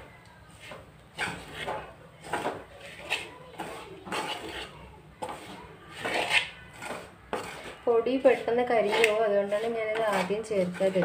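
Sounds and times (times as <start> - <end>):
spoon scraping a metal pan: 0.5 - 11.0.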